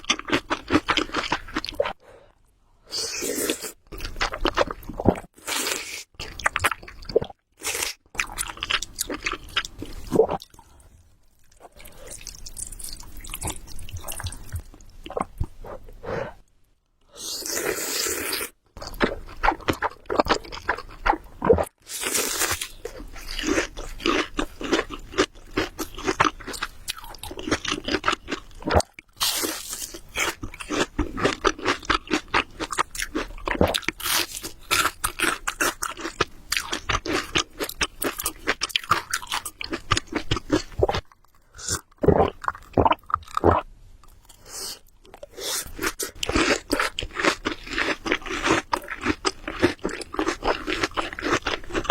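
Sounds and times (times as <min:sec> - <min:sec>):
person chewing crunchy food: 0:00.0 - 0:02.0, 0:03.0 - 0:10.8, 0:11.4 - 0:16.1, 0:17.2 - 0:51.9.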